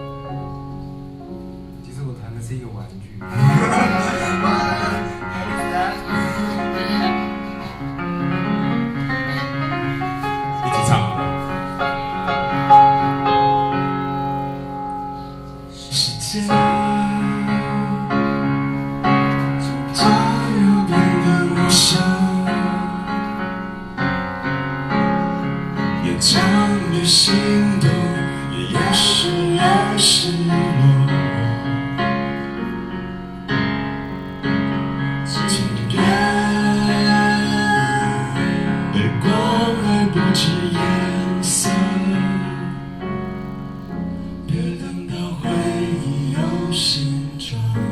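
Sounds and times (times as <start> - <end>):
live pop song on keyboard: 0.0 - 2.1, 3.2 - 47.9.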